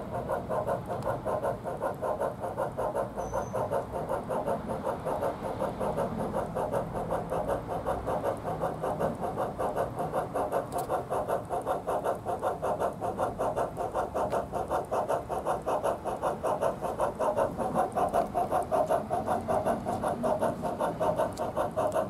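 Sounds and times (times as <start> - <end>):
model locomotive steam chuffs: 0.0 - 22.0.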